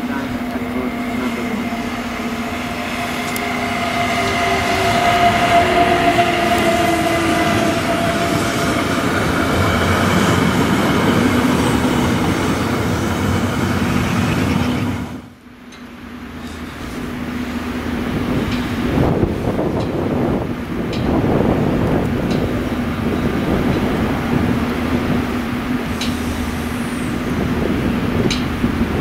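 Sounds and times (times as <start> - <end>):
electric locomotive whine: 0.0 - 29.0
wheels rumbling on rail: 0.0 - 29.0.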